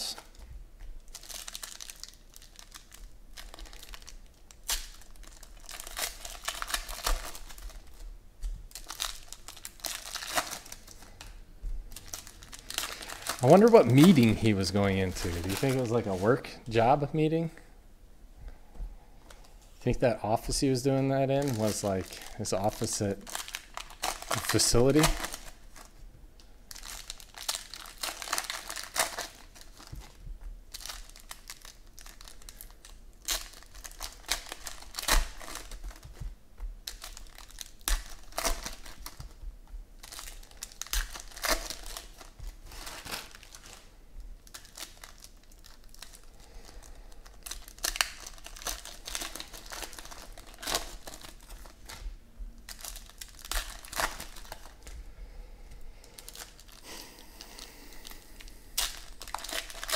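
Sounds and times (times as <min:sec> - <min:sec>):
foil wrappers crinkling and tearing: 0:00.0 - 0:17.0, 0:20.4 - 0:26.0, 0:26.7 - 0:55.0, 0:56.0 - 0:59.9.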